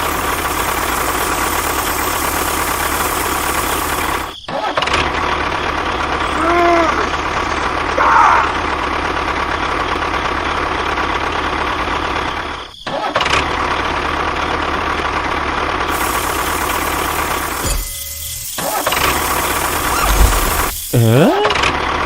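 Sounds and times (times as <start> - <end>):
motor running steadily: 0.0 - 4.4, 5.0 - 12.6, 15.5 - 22.0.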